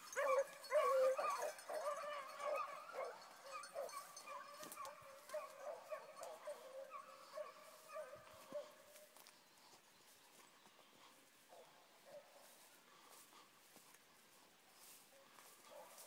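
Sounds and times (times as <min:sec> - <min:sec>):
pack of hounds baying: 0:00.0 - 0:13.5, 0:15.0 - 0:16.0.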